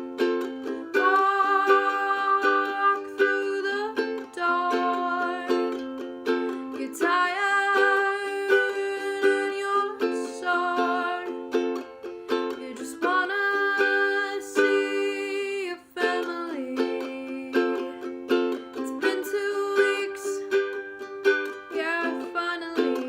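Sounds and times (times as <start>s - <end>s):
woman singing slow song: 0.8s - 5.8s, 6.7s - 11.4s, 12.5s - 18.1s, 18.8s - 20.7s, 21.7s - 23.0s.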